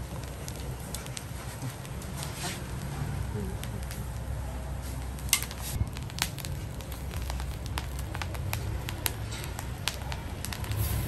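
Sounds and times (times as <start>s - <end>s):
shellfish popping and crackling: 0.0s - 4.4s, 5.0s - 11.0s
low rumble of heat: 0.0s - 11.0s.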